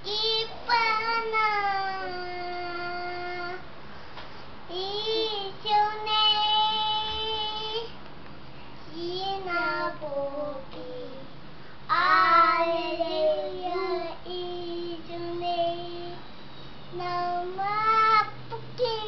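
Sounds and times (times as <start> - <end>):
girl singing unaccompanied: 0.0 - 3.7, 4.7 - 8.0, 8.9 - 16.3, 16.9 - 19.0.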